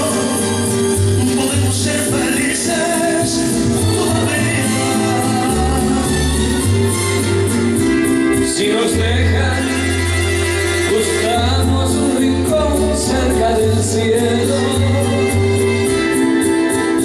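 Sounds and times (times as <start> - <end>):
man singing into microphone: 0.0 - 7.2, 7.8 - 17.0
latin-style music: 0.0 - 17.0.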